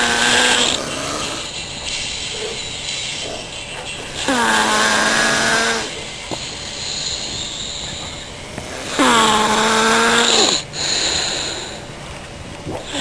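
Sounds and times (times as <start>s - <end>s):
person snoring: 0.0s - 11.9s, 12.8s - 13.0s.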